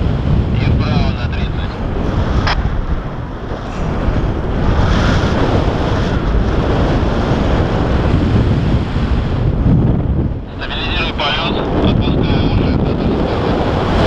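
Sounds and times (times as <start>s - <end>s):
rushing wind noise: 0.0s - 14.0s.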